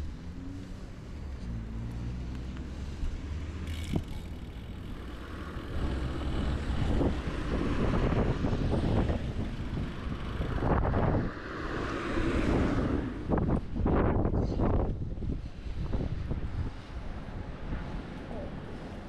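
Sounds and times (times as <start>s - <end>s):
wind buffeting microphone: 3.7s - 19.0s.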